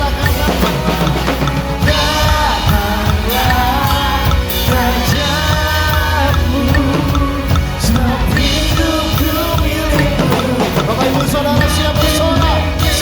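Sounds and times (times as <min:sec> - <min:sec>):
drum kit beat: 0:00.0 - 0:13.0
sung lead vocal: 0:00.0 - 0:13.0.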